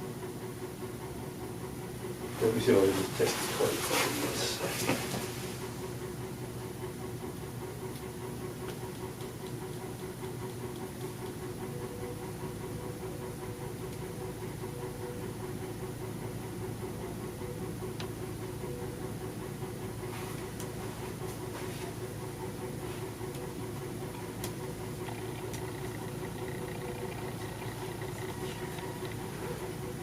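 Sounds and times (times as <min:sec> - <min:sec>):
mechanical hum with held tones: 0:00.0 - 0:30.0.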